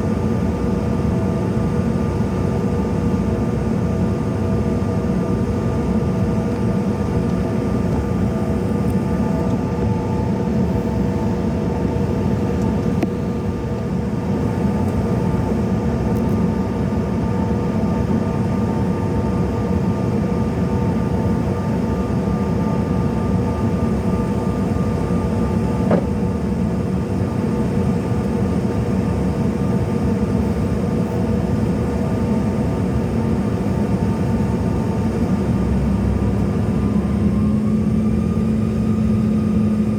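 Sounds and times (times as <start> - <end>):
jet engine and airflow rush: 0.0 - 39.9.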